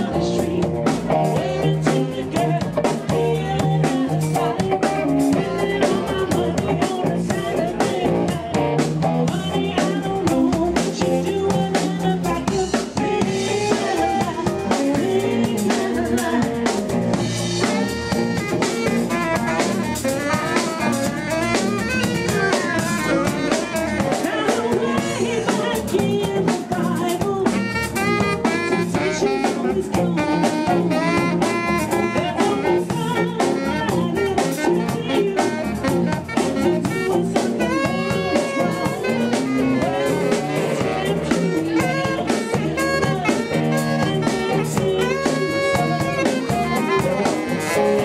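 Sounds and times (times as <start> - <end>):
drum kit: 0.0 - 48.0
electric bass: 0.0 - 48.0
keyboard: 0.0 - 48.0
saxophone melody: 0.0 - 48.0.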